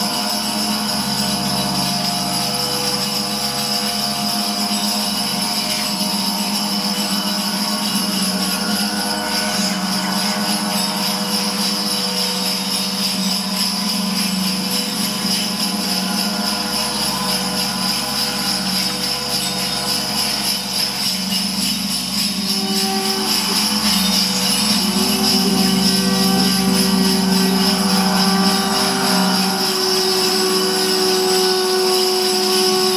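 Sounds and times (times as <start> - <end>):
large gong shimmering: 0.0 - 32.9.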